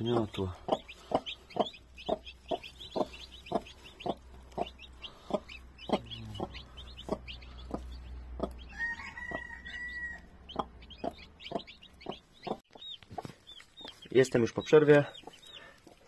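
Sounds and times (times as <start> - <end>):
chicks peeping: 0.0 - 16.0
hen clucking: 0.0 - 16.0.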